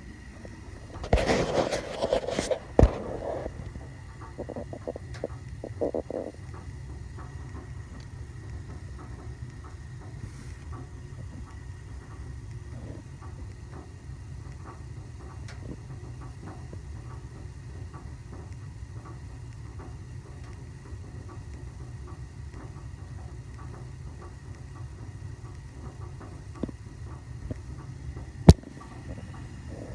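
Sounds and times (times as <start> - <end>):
gas boiler rumbling: 0.0 - 29.9
sharp pops and ticks: 0.4 - 27.9, 28.5 - 29.3.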